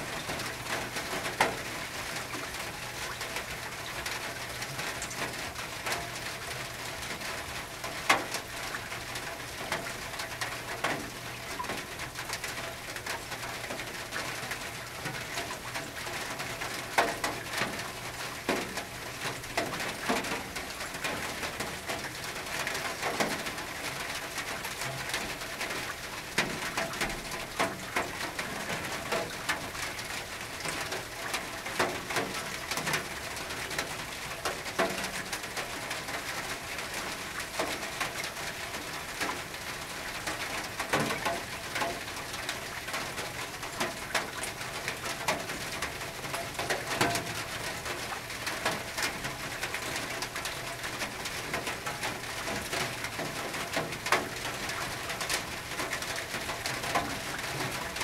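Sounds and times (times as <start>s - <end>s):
rain on a tin roof: 0.0s - 58.0s.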